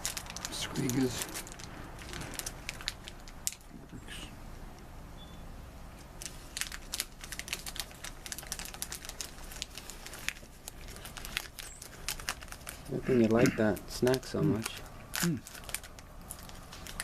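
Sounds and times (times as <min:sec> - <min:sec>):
snack crackling while eaten: 0:00.0 - 0:03.8, 0:06.1 - 0:17.0.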